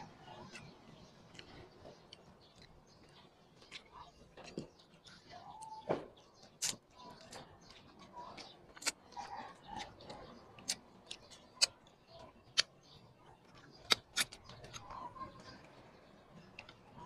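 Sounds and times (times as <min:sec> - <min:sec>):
chewing with lip-smacking clicks: 0:00.0 - 0:05.6, 0:06.4 - 0:15.6.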